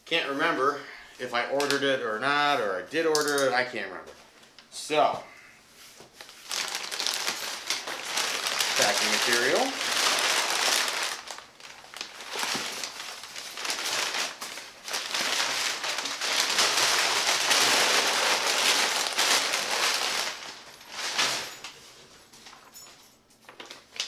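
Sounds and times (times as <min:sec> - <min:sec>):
packing paper crinkling and rustling: 0:01.5 - 0:03.6, 0:05.8 - 0:22.8, 0:23.5 - 0:24.0.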